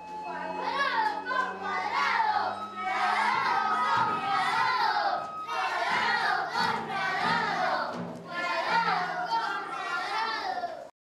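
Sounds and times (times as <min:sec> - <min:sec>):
young voices shouting: 0:00.6 - 0:10.8.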